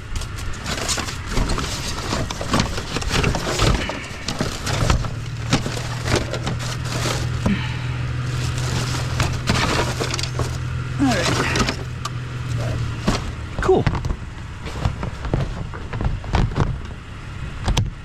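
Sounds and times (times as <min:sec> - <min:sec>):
scrap metal knocking and clattering: 0:00.0 - 0:16.9
steady low hum: 0:00.0 - 0:18.0.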